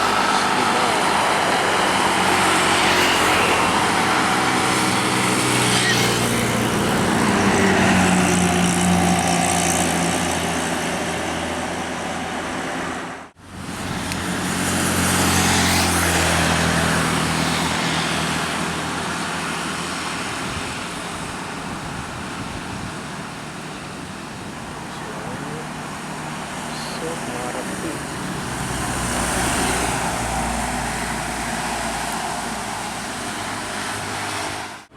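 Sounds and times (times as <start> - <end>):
vehicle passing: 0.0 - 21.2, 23.5 - 34.9
bus engine drone: 0.0 - 34.9.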